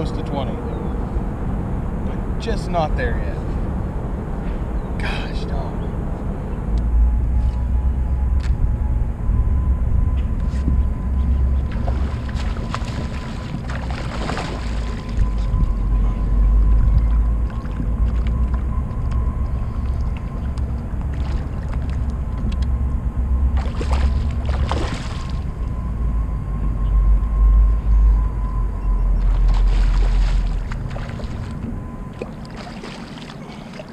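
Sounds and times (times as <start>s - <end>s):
water and wind rumbling against hull: 0.0s - 33.9s.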